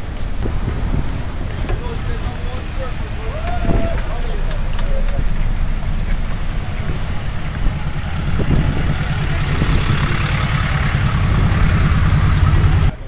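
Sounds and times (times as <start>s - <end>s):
traffic engines idling: 0.0s - 13.0s.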